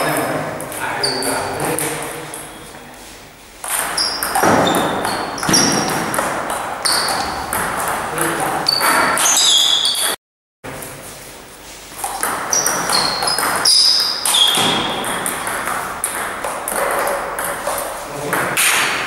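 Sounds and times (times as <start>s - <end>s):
shoes squeaking on floor: 0.8s - 10.2s, 11.8s - 18.4s.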